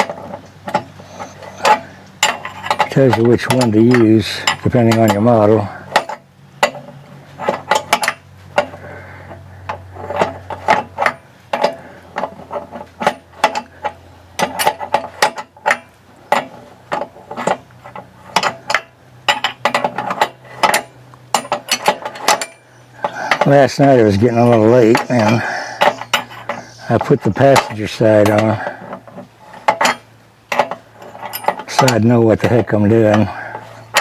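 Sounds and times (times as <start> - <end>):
metal bolts and tools clinking: 0.0 - 34.0.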